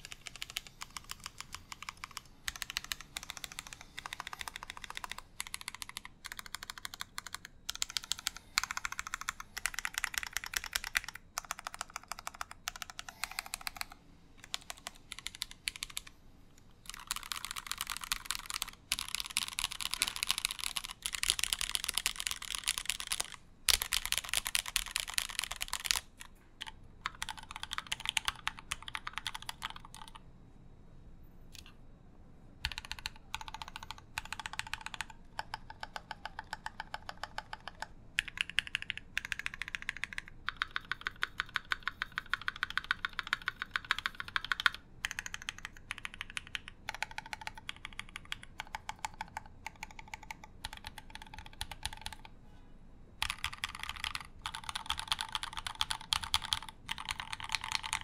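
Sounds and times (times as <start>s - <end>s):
mechanical keyboard typing: 0.0s - 16.1s, 16.8s - 30.2s, 32.6s - 52.3s, 53.2s - 58.0s.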